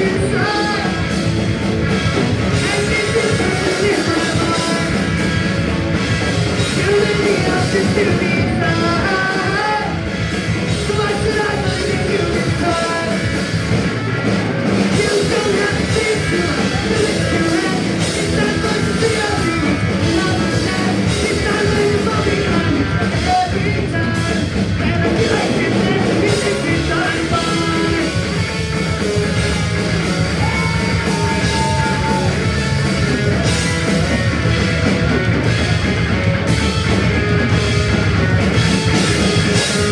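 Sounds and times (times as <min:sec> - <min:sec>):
person singing: 0:00.0 - 0:39.9
punk rock band playing: 0:00.0 - 0:39.9.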